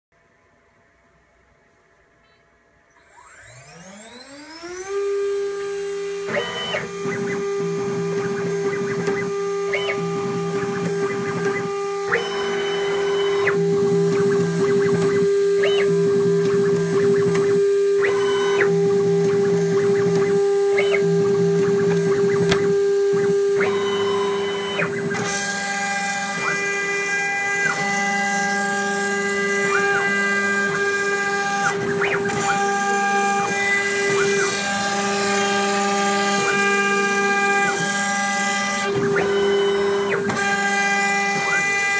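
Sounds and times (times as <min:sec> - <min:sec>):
milling spindle whine: 0:02.9 - 0:41.9
cutter machining acrylic: 0:03.0 - 0:41.9.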